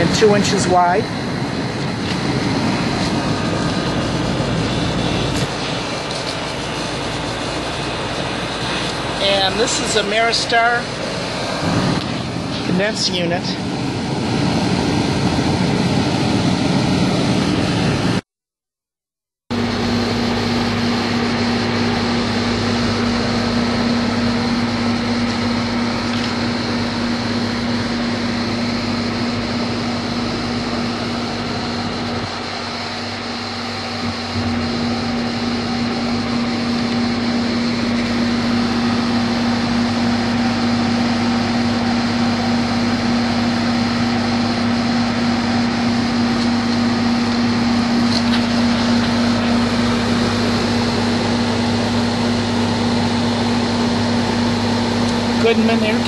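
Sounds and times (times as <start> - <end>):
electrical hum: 0.0 - 18.2, 19.5 - 56.0
fan blowing air: 0.0 - 18.2, 19.5 - 56.0.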